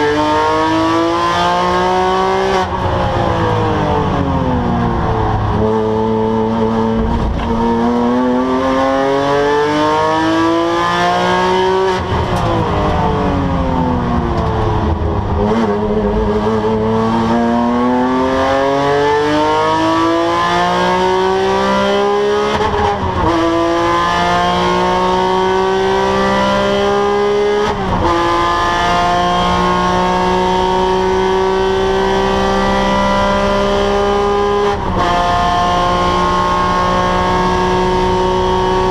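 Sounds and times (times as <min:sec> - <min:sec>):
car engine revving with upshifts: 0:00.0 - 0:38.9.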